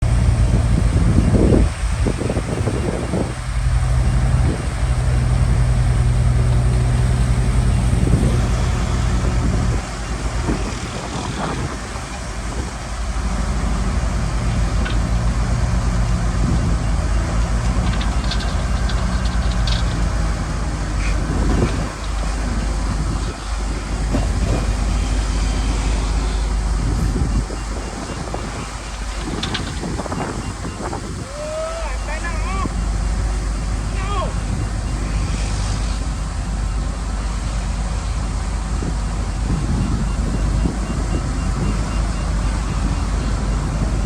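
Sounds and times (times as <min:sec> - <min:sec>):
bulldozer diesel engine running: 0:00.0 - 0:44.0.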